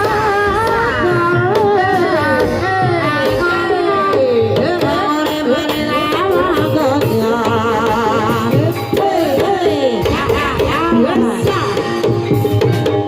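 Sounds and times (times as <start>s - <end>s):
hand drum strokes: 0.0s - 13.0s.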